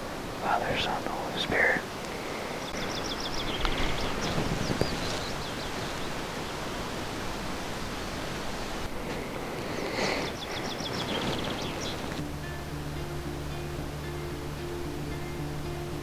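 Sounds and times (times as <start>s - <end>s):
wind rushing through woods: 0.0s - 16.0s.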